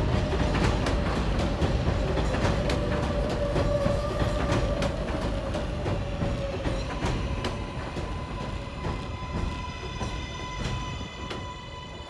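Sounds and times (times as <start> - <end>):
wheels clicking over rail joints: 0.0 - 11.4
subway train whine: 0.0 - 12.0.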